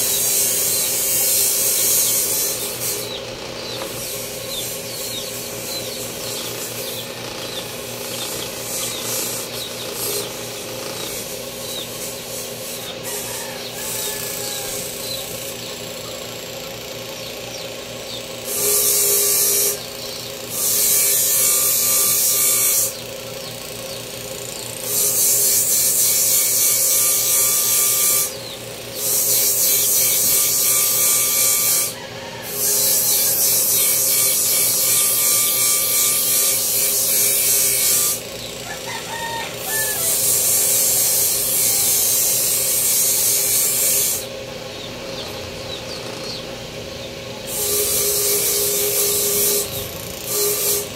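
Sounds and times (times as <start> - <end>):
power tool humming: 0.0 - 50.9.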